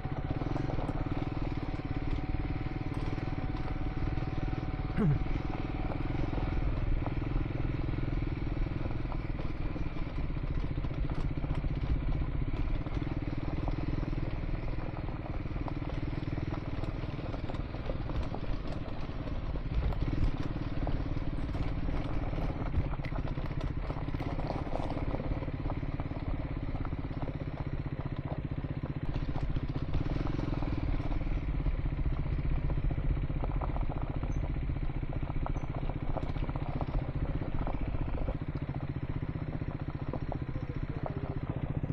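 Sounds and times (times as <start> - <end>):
motorcycle engine running: 0.0 - 41.9
stones clattering under tyres: 0.1 - 41.9.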